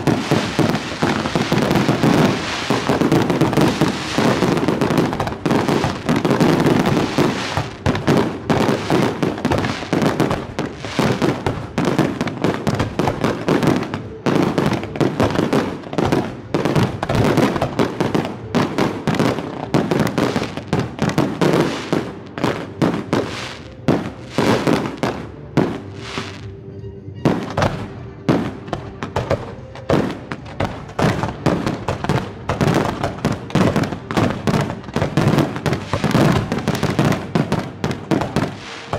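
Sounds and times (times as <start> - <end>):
fireworks bangs and crackle: 0.0 - 26.6, 27.2 - 38.9.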